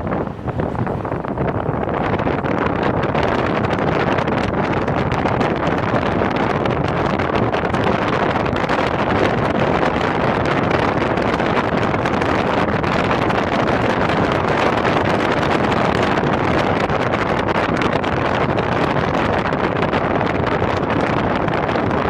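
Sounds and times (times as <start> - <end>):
car driving noise: 0.0 - 22.0
wind rushing over microphone: 0.0 - 22.0.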